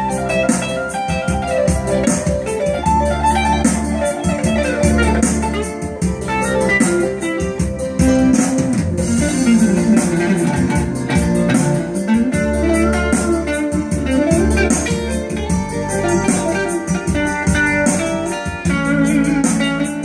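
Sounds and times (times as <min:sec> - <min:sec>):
electric guitar lines with bends: 0:00.0 - 0:20.0.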